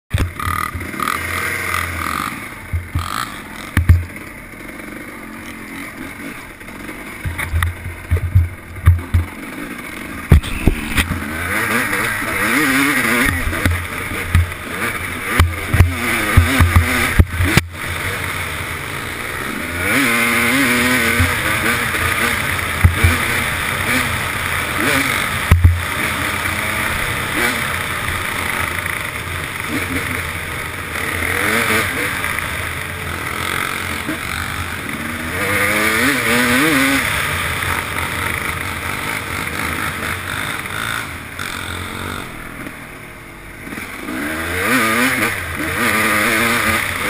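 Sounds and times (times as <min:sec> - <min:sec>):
dirt bike engine revving: 0:00.1 - 0:47.0.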